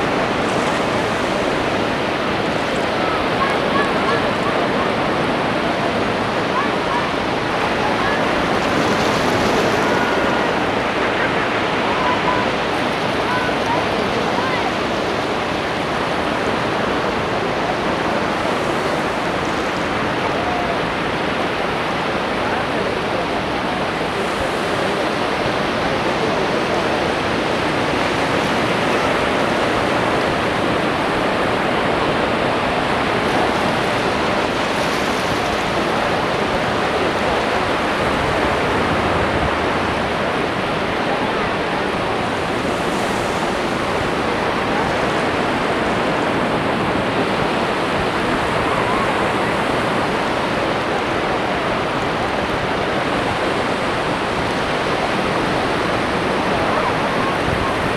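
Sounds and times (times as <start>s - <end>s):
surf washing onto beach: 0.0s - 57.9s.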